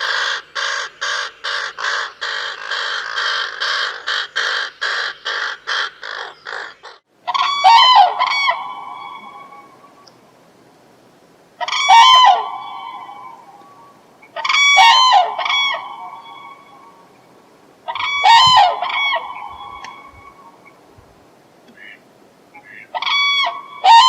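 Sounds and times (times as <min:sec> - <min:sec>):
bird giving echoing pitched calls: 0:00.0 - 0:10.0, 0:11.6 - 0:17.2, 0:17.9 - 0:20.8, 0:22.6 - 0:24.0
bird giving harsh calls: 0:00.0 - 0:10.0, 0:11.6 - 0:17.2, 0:17.9 - 0:20.8, 0:22.6 - 0:24.0.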